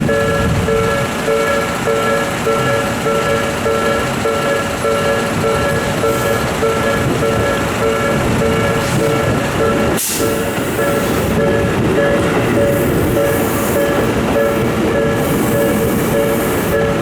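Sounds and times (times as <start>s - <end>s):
level-crossing warning bell: 0.0s - 17.0s
train rumble: 0.0s - 17.0s.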